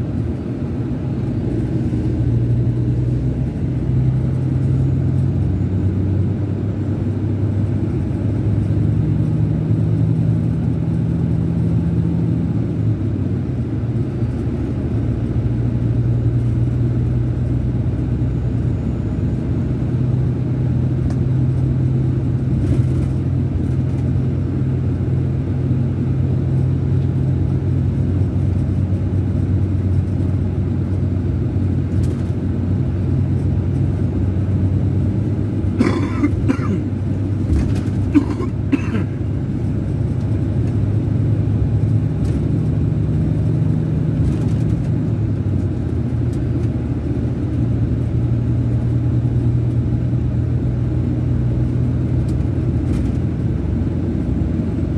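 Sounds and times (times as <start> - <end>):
diesel engine drone: 0.0 - 54.9
road noise: 0.0 - 54.9.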